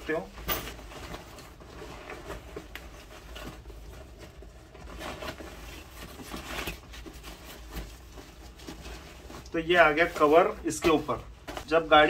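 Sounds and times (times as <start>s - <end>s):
nylon cover rustling: 0.0s - 12.0s
nylon cover scraping: 0.1s - 12.0s.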